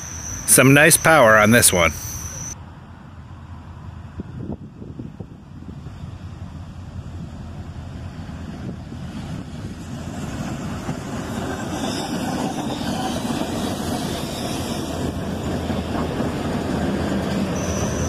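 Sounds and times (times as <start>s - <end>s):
steel wheels on rail: 0.0s - 2.6s, 5.8s - 18.0s
diesel locomotive engines rumbling: 0.0s - 18.0s.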